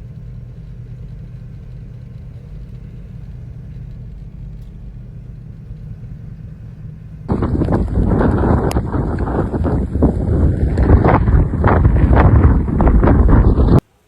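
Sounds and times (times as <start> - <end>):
motor vehicle engine rumbling: 0.0 - 14.0.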